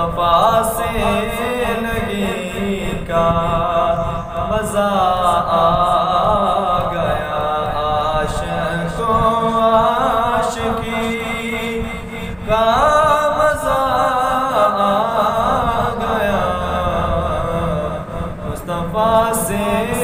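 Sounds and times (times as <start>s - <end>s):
man singing in chanting style: 0.0s - 20.0s.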